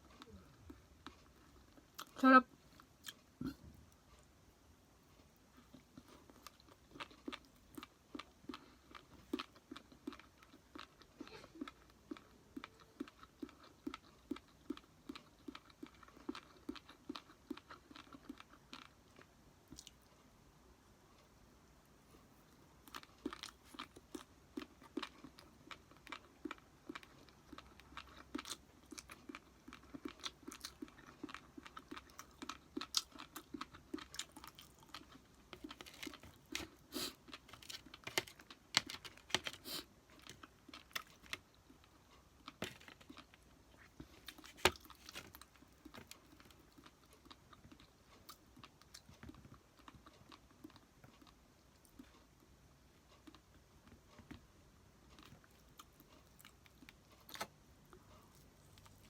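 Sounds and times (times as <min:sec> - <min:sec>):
close-up chewing food: 0:00.0 - 0:59.0.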